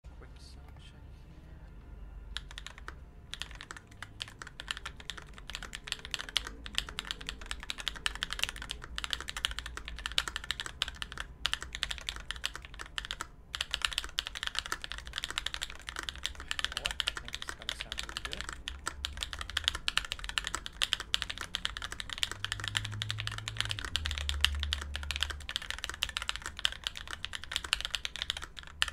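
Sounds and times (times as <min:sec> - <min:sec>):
fast mechanical keyboard typing: 0:02.3 - 0:28.9.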